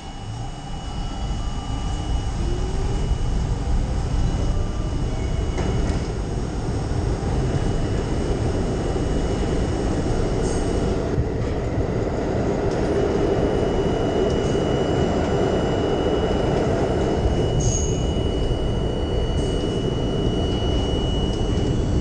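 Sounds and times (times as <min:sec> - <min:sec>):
faint rising whine: 0:00.0 - 0:22.0
subway train rumbling: 0:00.0 - 0:22.0.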